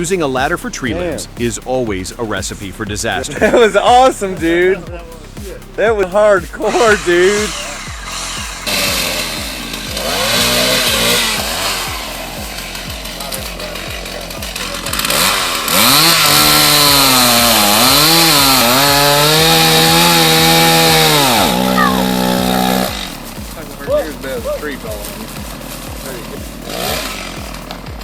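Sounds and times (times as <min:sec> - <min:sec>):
background music with steady beat: 0:00.0 - 0:28.0
chainsaw engine revving: 0:02.6 - 0:04.8, 0:06.6 - 0:28.0.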